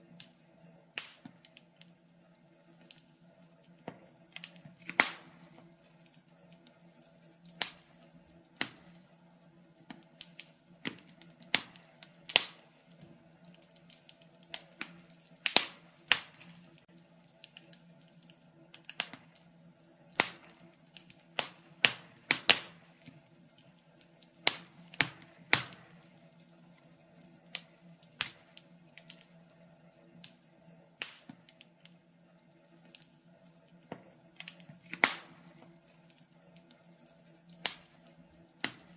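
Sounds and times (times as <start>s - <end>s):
faint steady hum: 0.0s - 38.9s
wood fire crackling: 0.0s - 38.9s.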